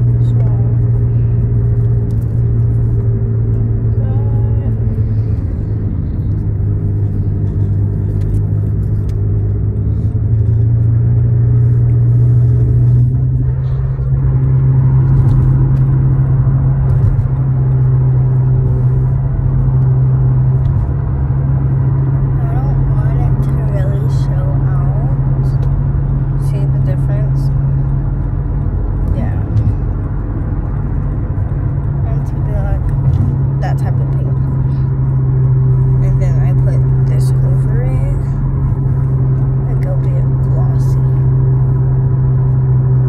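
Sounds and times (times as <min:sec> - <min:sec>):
car cabin drone: 0:00.0 - 0:43.0.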